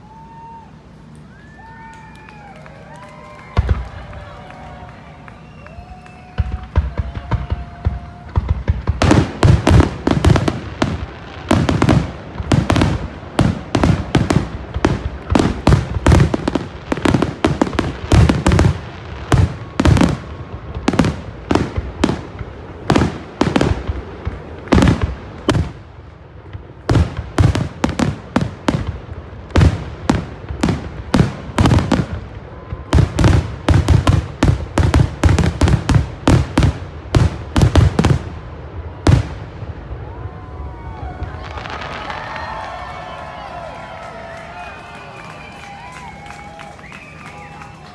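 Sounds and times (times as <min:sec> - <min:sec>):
fireworks bursting: 0:00.1 - 0:47.9.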